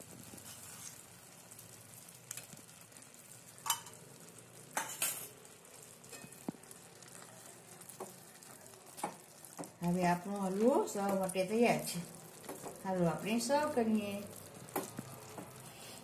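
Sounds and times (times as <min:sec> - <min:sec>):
faint sizzle in a pan: 0:00.0 - 0:16.0.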